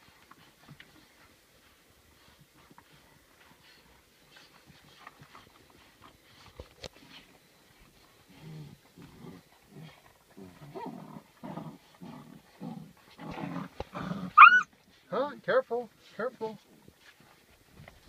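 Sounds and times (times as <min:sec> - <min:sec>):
puppies growling in play: 0:00.0 - 0:14.7.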